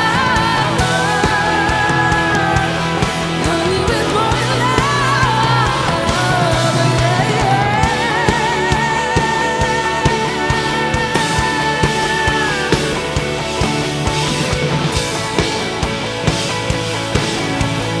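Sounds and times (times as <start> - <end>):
drum beat: 0.0 - 18.0
rock band playing: 0.0 - 18.0.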